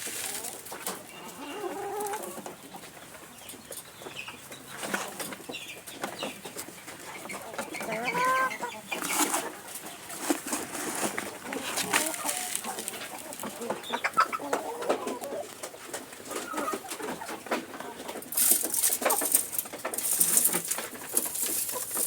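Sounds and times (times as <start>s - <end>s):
chickens clucking: 0.0s - 22.0s
chicken calls: 0.1s - 22.0s.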